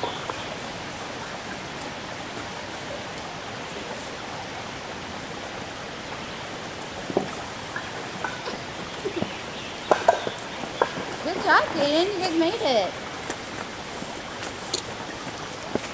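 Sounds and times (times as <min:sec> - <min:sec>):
flowing water rushing: 0:00.0 - 0:15.9.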